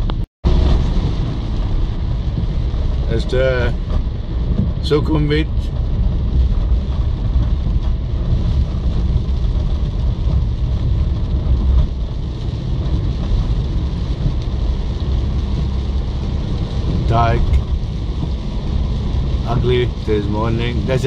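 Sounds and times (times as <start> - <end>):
car road and engine rumble: 0.0 - 21.0
rain hiss: 0.5 - 21.0.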